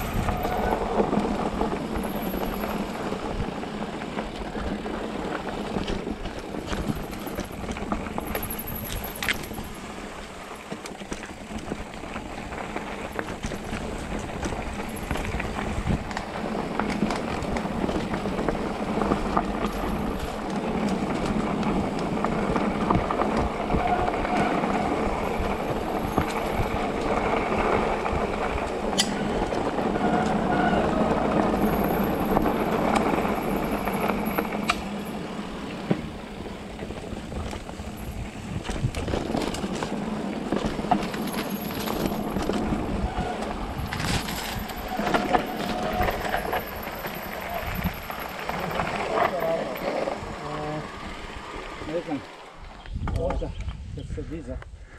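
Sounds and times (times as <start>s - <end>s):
bike rattles and knocks: 0.0s - 50.8s
tyres rolling over dirt: 0.0s - 53.4s.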